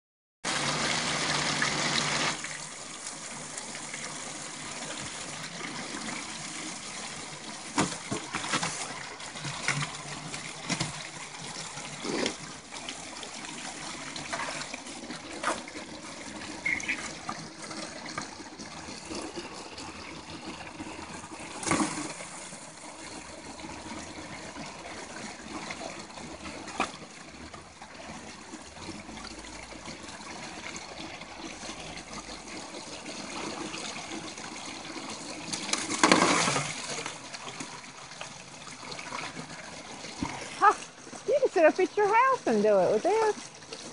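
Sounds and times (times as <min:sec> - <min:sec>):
creek running: 0:00.4 - 0:43.9
water trickling into plastic tray: 0:01.3 - 0:43.9.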